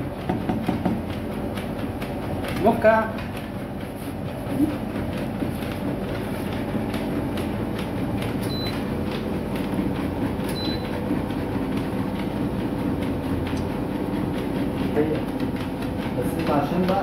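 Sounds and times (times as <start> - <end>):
paws clattering on treadmill belt: 0.0 - 17.0
treadmill motor hum: 0.0 - 17.0.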